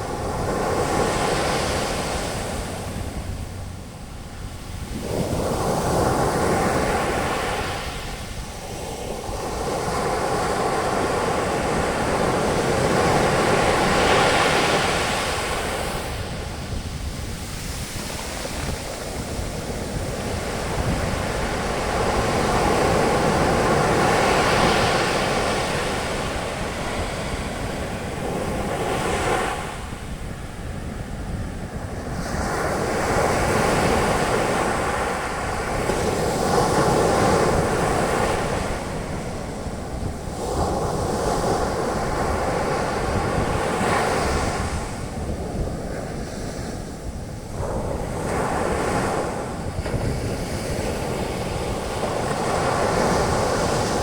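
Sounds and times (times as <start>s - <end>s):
sea waves breaking on a beach: 0.0s - 54.0s.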